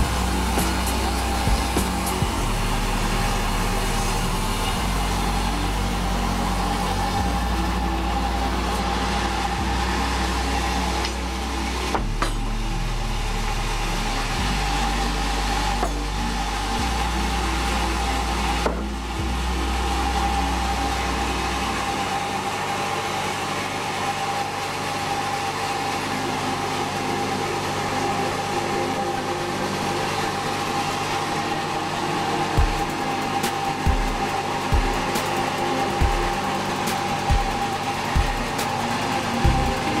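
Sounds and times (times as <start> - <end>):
deep low drone: 0.0 - 40.0
sawmill machinery humming: 0.0 - 40.0.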